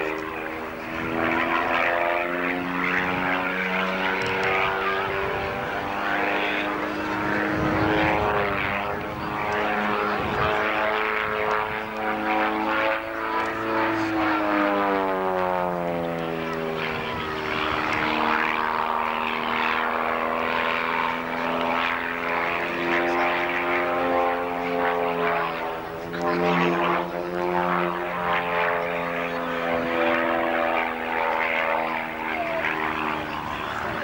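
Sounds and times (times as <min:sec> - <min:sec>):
propeller aircraft engine drone: 0:00.0 - 0:34.0.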